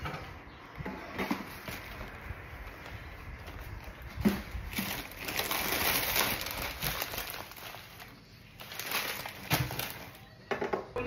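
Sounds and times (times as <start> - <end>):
plastic bags rustling: 0.0 - 10.4.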